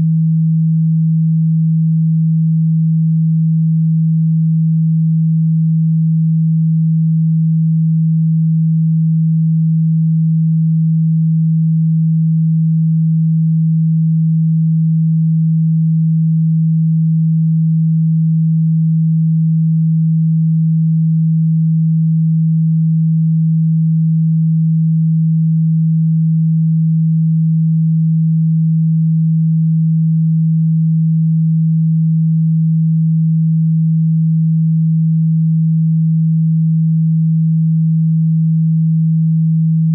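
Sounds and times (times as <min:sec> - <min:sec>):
low electronic tone: 0:00.0 - 0:39.9.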